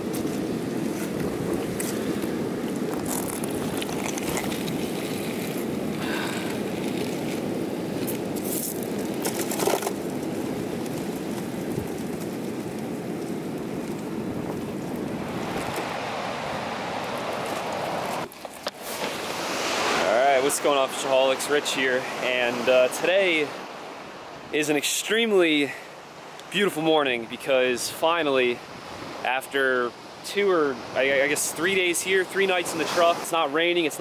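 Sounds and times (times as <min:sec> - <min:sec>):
surf rushing on rocks: 0:00.0 - 0:34.0
wind: 0:00.0 - 0:34.0.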